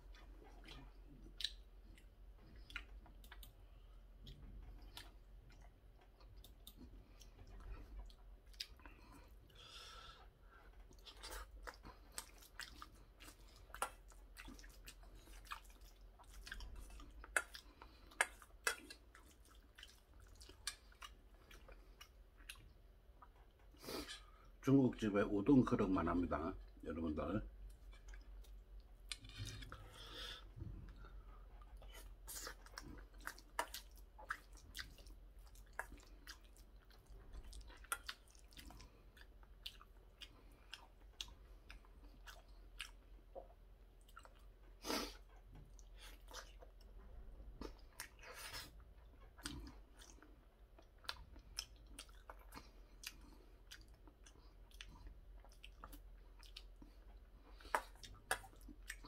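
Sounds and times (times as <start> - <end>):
person chewing: 0.0 - 24.6, 27.7 - 59.0.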